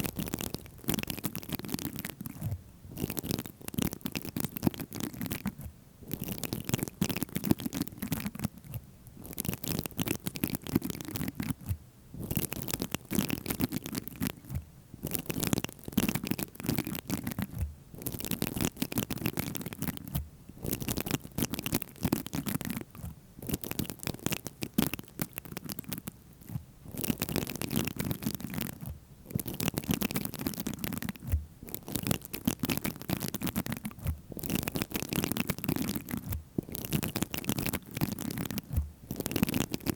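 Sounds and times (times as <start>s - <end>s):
tapping and scratching on objects: 0.0s - 39.9s.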